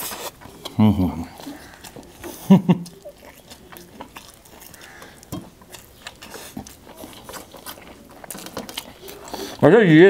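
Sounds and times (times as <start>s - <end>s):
person chewing chicken: 0.0s - 9.7s.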